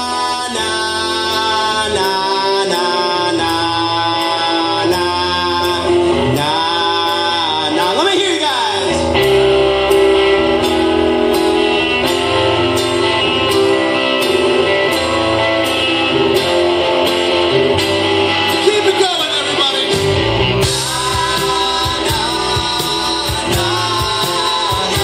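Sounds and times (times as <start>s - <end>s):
live rock band playing: 0.0s - 25.0s
male lead singer: 0.0s - 25.0s.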